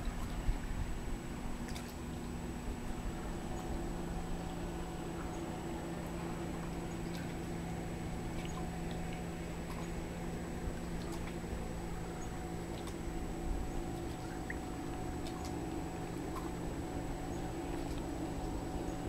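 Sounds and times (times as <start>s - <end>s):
faint high whine: 0.0s - 19.0s
steady background hum: 0.0s - 19.0s.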